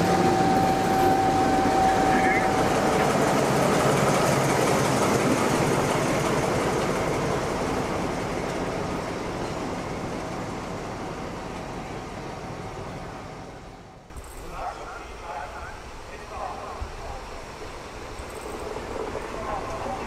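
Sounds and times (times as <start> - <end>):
diesel locomotive engine passing: 0.0 - 20.0.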